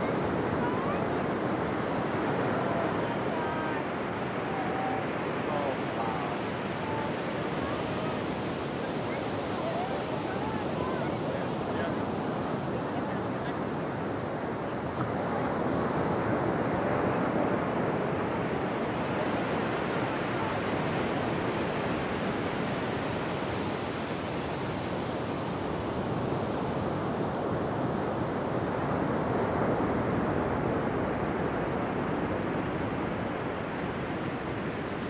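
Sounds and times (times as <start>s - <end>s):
wind on microphone: 0.0s - 35.0s.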